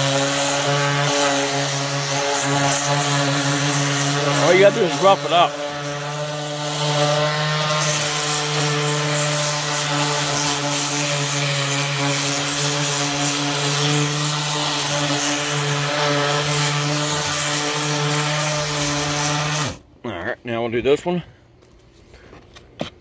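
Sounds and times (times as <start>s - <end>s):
orbital sander on painted wood: 0.0s - 19.8s.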